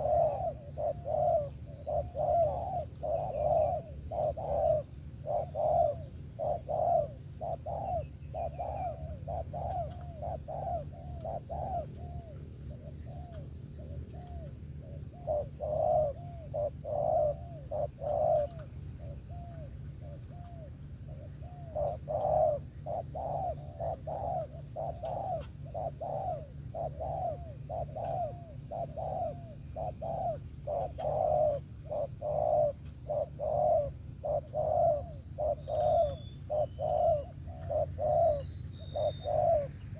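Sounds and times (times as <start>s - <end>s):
dove cooing: 0.0s - 39.9s
steady low hum: 0.0s - 39.9s.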